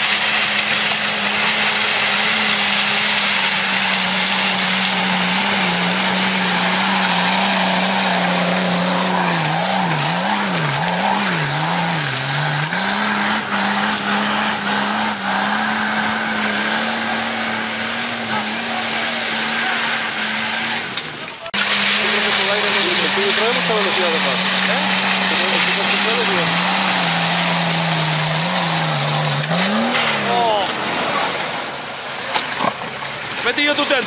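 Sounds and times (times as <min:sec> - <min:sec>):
engine working hard under load: 0:00.0 - 0:34.0.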